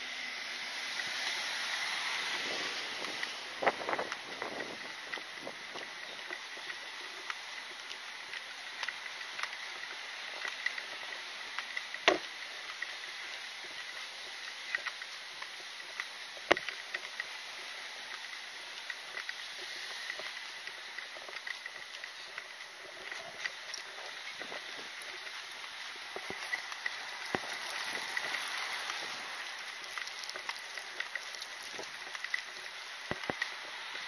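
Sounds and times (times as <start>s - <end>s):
street hiss: 0.0s - 34.0s
light clicks and taps: 3.2s - 34.0s.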